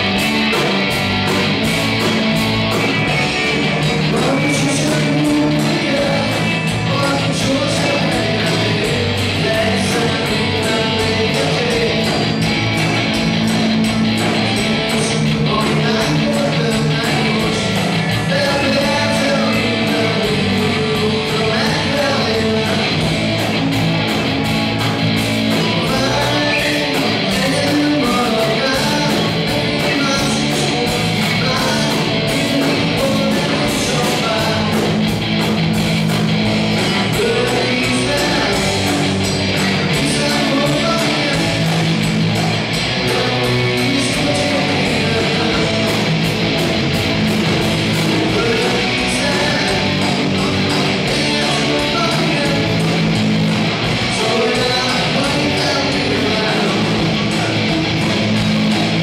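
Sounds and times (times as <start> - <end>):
bass guitar: 0.0 - 59.0
drums: 0.0 - 59.0
electric guitars: 0.0 - 59.0.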